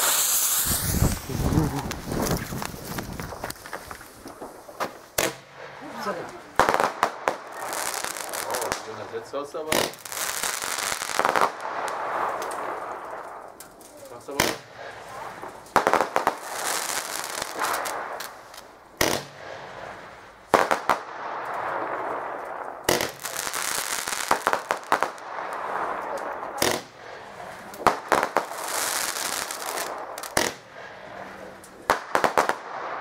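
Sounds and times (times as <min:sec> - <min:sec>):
firework shots: 0:00.0 - 0:33.0.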